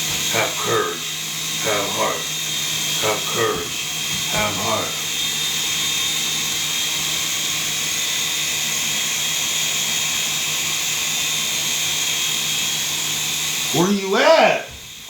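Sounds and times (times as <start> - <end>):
rc helicopter high whine: 0.0 - 15.0.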